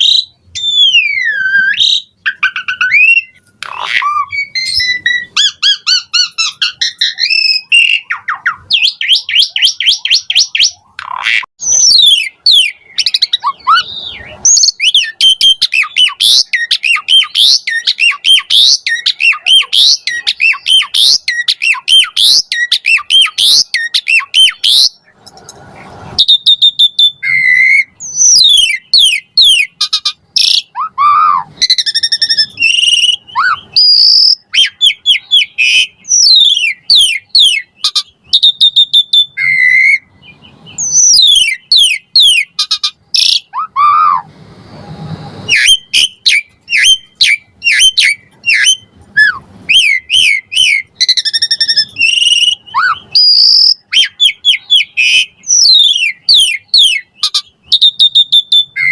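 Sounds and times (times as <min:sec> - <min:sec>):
starling singing: 0:00.0 - 0:25.2, 0:25.8 - 0:44.3, 0:45.5 - 0:58.9.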